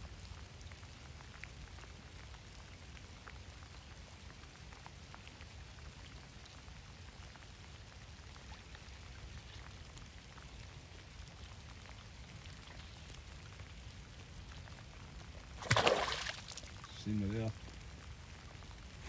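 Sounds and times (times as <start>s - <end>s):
light rain patter: 0.0s - 19.0s.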